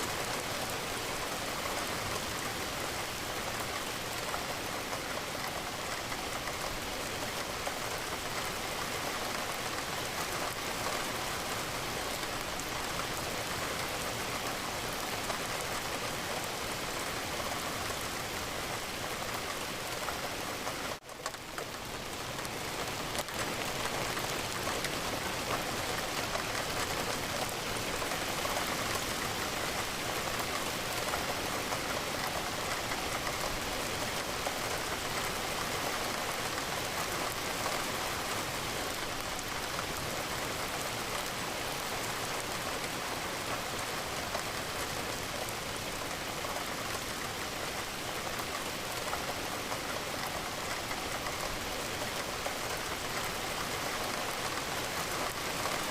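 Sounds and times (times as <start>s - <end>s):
rain pattering on a window: 0.0s - 55.9s.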